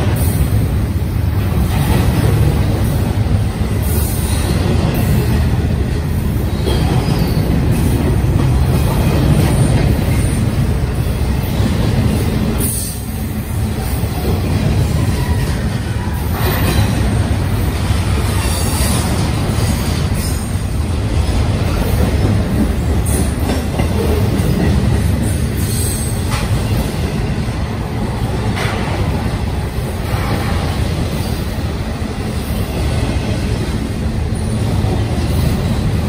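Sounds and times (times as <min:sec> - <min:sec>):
freight train wheels rumbling on rail: 0:00.0 - 0:36.0.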